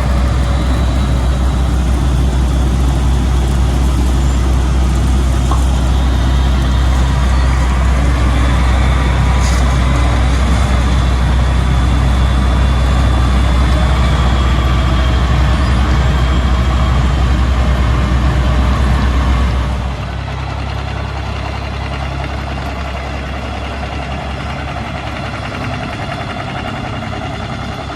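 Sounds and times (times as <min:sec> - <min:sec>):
heavy machinery engines rumbling: 0:00.0 - 0:27.9
quieter engine running: 0:00.0 - 0:27.9.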